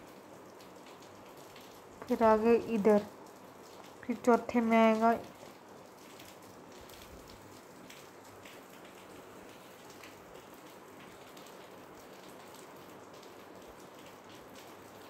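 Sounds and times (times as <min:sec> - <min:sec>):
faint background hiss: 0:00.0 - 0:15.0
light crackles and ticks: 0:00.0 - 0:15.0.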